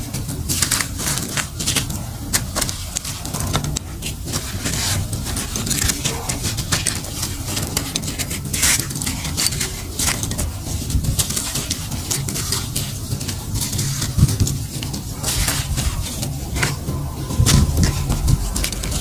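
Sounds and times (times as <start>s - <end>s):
gritty clumps crunching by hand: 0.0s - 19.0s
steady low rumble: 0.0s - 19.0s.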